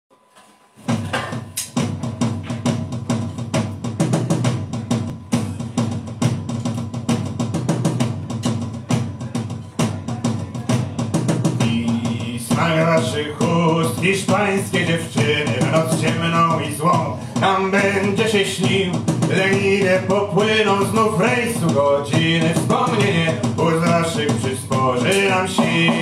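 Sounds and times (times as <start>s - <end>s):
drums beating: 0.8s - 26.0s.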